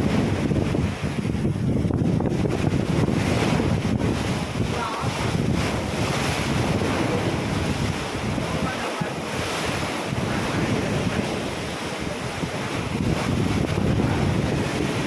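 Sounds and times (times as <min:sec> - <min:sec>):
ocean waves splashing: 0:00.0 - 0:15.0
wind buffeting microphone: 0:00.0 - 0:15.0.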